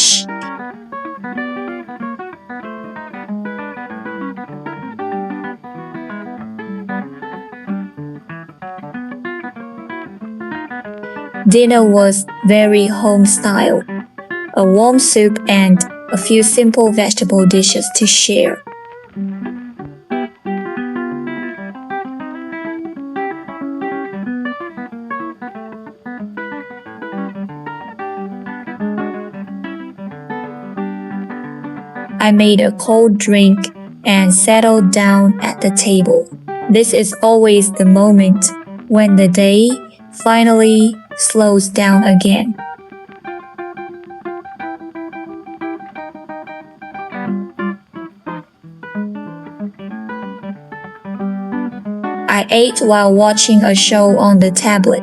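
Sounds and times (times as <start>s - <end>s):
plucked guitar melody: 0.0s - 55.0s.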